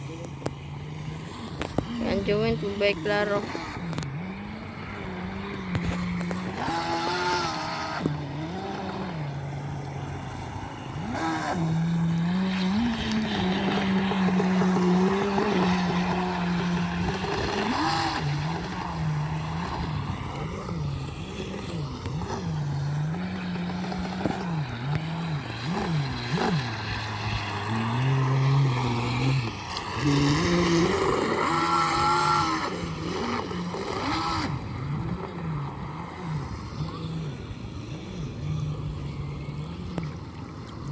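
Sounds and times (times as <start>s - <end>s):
model boat motor whining: 0.0s - 40.9s.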